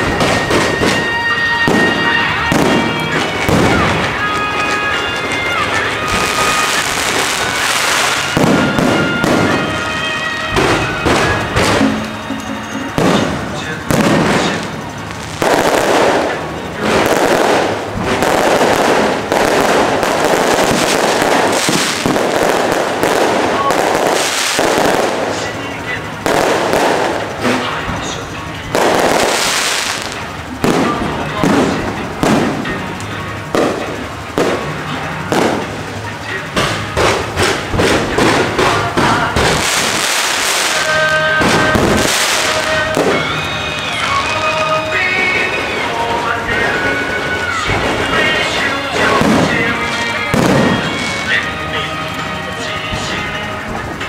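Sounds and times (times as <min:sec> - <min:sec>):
fireworks crackling overhead: 0:00.0 - 0:54.0.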